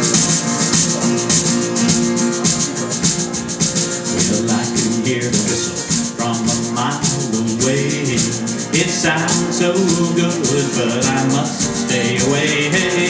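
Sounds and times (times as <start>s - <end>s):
acoustic guitar: 0.0s - 13.0s
country band playing: 0.0s - 13.0s
drum kit beat: 0.0s - 13.0s.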